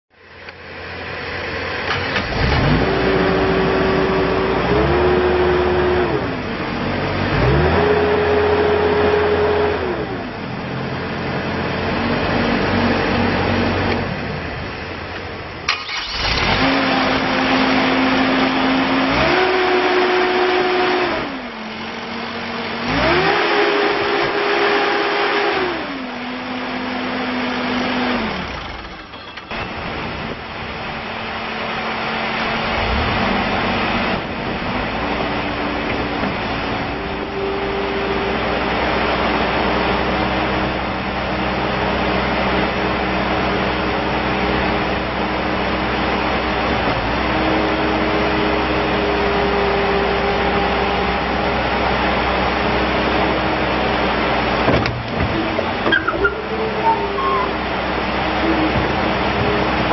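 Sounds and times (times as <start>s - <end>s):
diesel engine revving: 0.2s - 59.9s.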